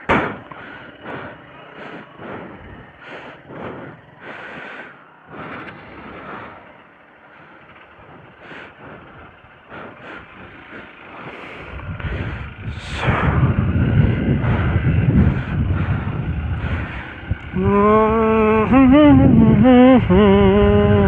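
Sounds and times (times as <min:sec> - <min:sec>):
motorcycles on gravel: 0:00.0 - 0:21.0.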